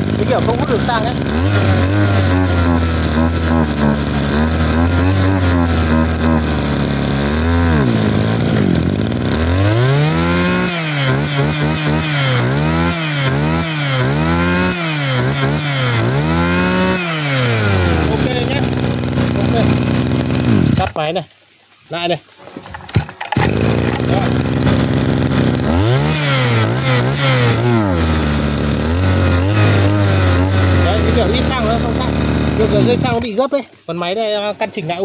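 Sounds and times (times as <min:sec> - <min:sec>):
brush cutter engine revving: 0:00.0 - 0:21.2, 0:22.6 - 0:33.6.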